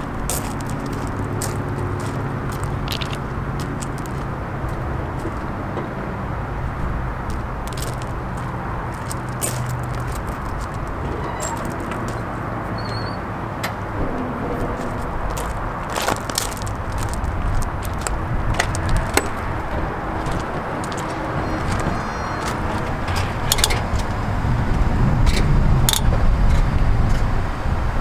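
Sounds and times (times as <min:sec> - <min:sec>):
steady low rumble: 0:00.0 - 0:12.8, 0:13.4 - 0:28.0.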